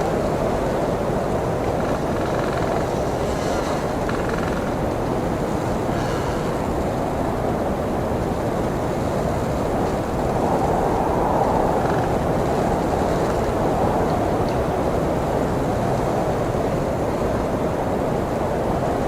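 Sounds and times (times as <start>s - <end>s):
blizzard wind roaring: 0.0s - 19.0s.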